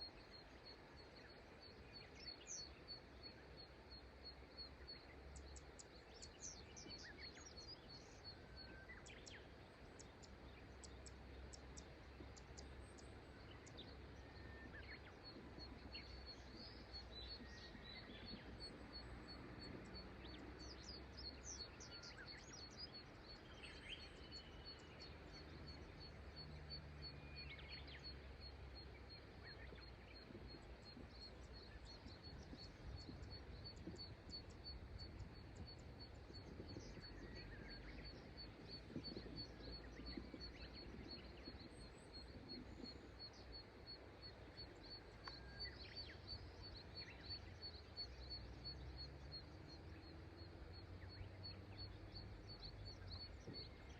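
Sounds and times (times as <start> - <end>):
faint river flowing: 0.0 - 53.9.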